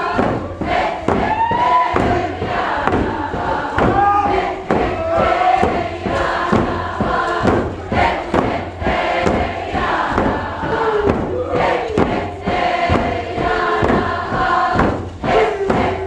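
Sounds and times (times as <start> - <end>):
group chanting in unison: 0.0 - 16.0
thumps: 0.0 - 16.0.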